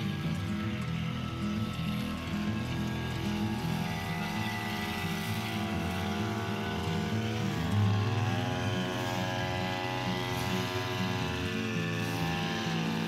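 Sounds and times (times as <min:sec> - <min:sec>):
brush cutter engine cutting grass: 0:00.0 - 0:13.0.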